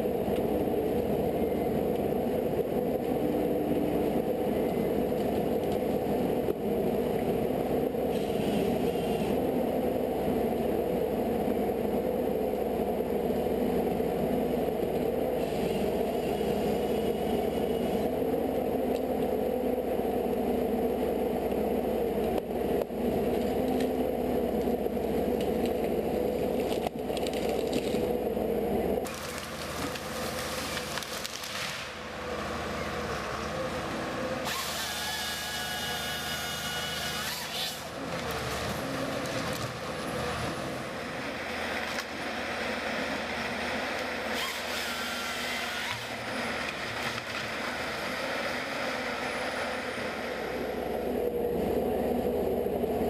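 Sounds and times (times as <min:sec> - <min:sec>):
machine engine running: 0:00.0 - 0:53.0.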